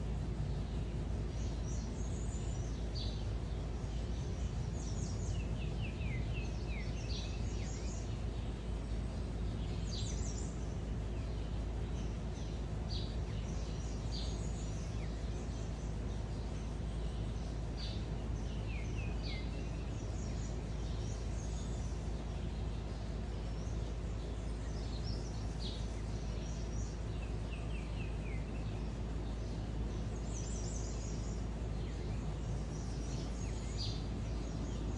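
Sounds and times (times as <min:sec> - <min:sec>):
low background rumble: 0:00.0 - 0:34.9
small songbirds chirping: 0:00.0 - 0:34.9.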